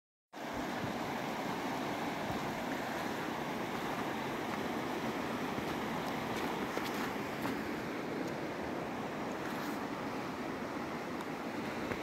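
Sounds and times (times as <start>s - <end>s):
river rushing over rocks: 0.4s - 12.0s.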